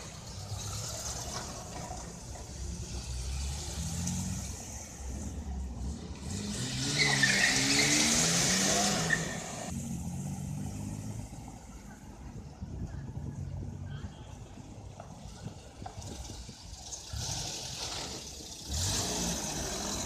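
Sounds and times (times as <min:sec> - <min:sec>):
car engines accelerating: 0:00.0 - 0:20.0.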